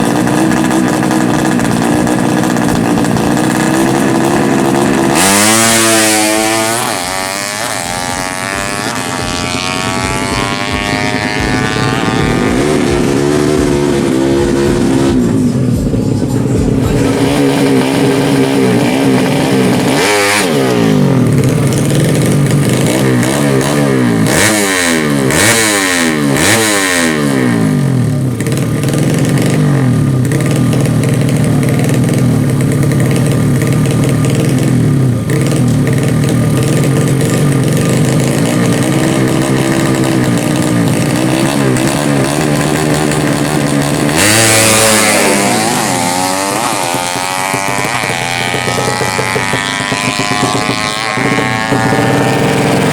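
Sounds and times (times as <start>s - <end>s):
motorbikes revving hard: 0.0s - 52.9s
quick throttle blips: 0.0s - 52.9s.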